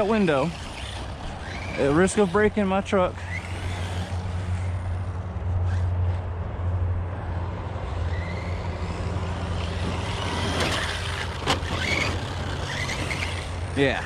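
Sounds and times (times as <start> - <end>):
electric motor whining: 0.0 - 6.3, 7.9 - 14.0.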